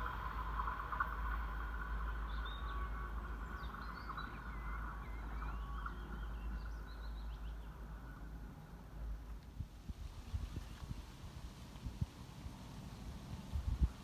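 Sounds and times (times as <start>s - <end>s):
songbirds singing: 0.0s - 11.8s
steady low rumble: 0.0s - 14.0s.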